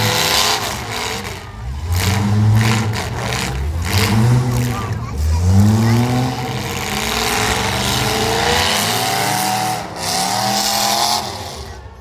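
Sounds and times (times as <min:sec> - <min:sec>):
car engines revving hard: 0:00.0 - 0:12.0
running cars noise: 0:00.0 - 0:12.0.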